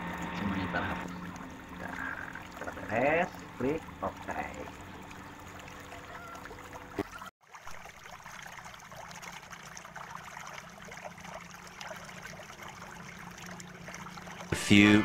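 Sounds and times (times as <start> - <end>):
low hum: 0.0 - 7.3, 10.2 - 15.0.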